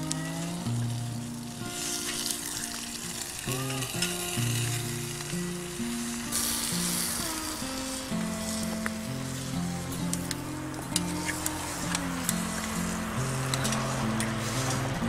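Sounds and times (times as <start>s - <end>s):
food sizzling in cookware: 0.0s - 15.0s
instrumental music: 0.0s - 15.0s.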